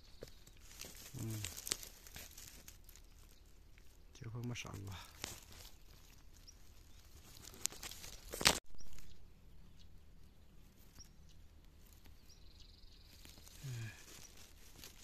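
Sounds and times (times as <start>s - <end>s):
grass rustling: 0.0s - 15.0s.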